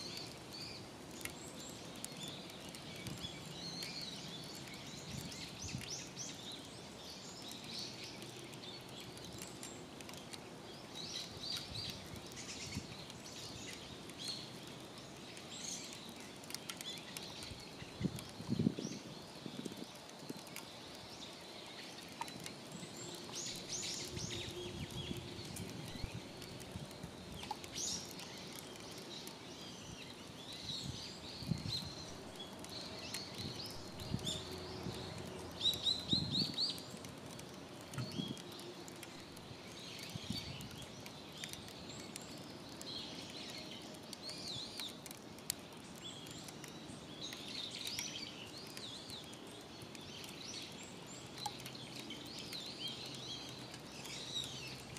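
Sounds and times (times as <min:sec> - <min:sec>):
steady outdoor background: 0:00.0 - 0:54.9.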